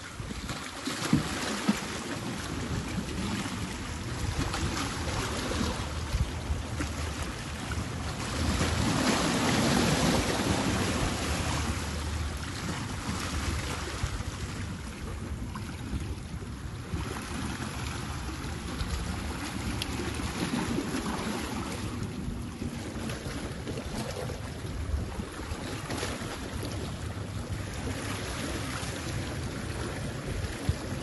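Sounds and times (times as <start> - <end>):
ocean waves splashing on rocks: 0.0 - 31.0
wind buffeting microphone: 1.8 - 31.0.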